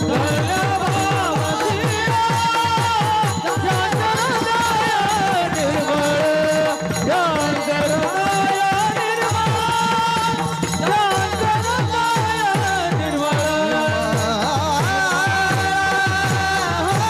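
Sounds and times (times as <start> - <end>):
man singing devotional melody: 0.0 - 17.0
steady drum beat: 0.0 - 17.0.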